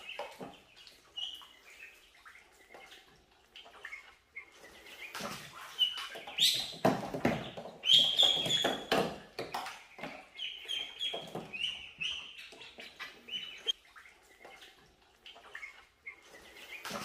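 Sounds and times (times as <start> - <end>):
ducklings peeping: 0.0 - 17.0
water splashes: 0.0 - 17.0.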